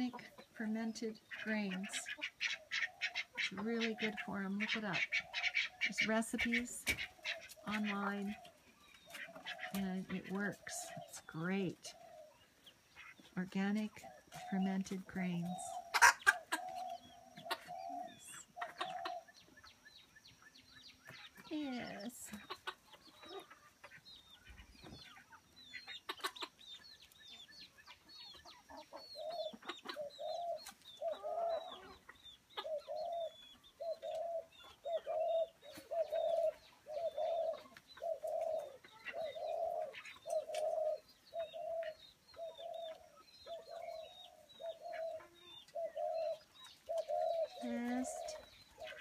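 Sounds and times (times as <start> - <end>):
low cooing bird call: 0.0 - 13.2, 13.9 - 49.0.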